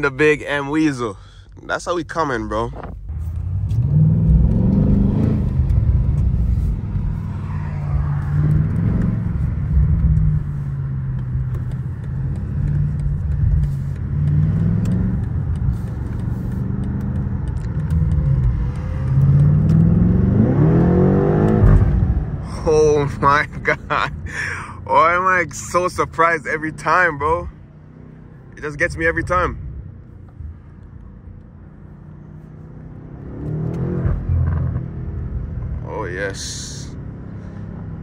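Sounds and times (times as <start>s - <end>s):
car engine accelerating: 2.8s - 38.0s.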